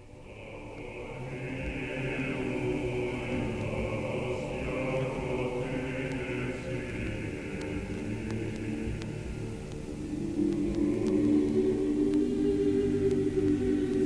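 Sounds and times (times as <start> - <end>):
choir singing chant: 0.0 - 14.0.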